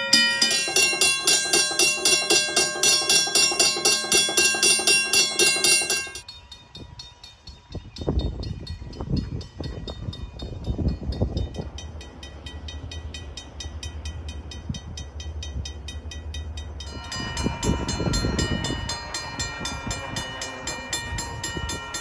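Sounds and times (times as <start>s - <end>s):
railroad crossing bells ringing: 0.0s - 22.0s.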